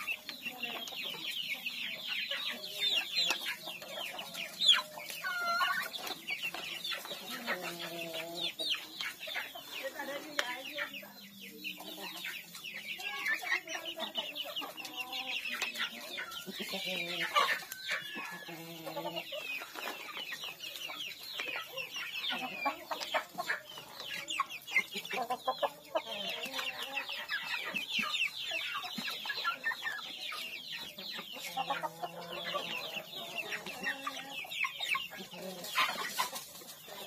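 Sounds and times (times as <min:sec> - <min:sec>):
chicks peeping: 0:00.0 - 0:37.0
low chicken clucks: 0:00.0 - 0:37.0.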